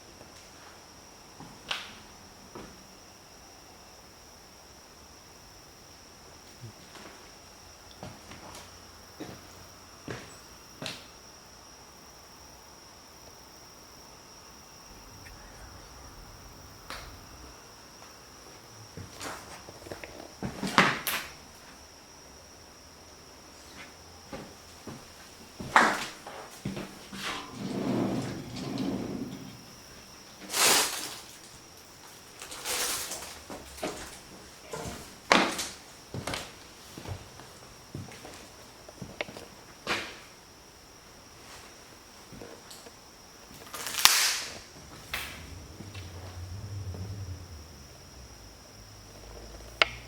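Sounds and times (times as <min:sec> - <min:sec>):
crickets trilling: 0:00.0 - 0:50.0.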